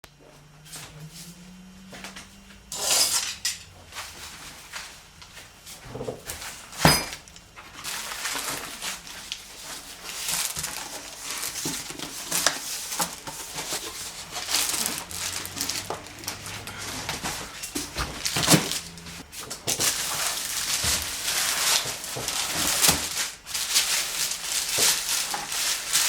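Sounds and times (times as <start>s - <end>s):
cardboard and plastic rustling: 2.0s - 26.0s.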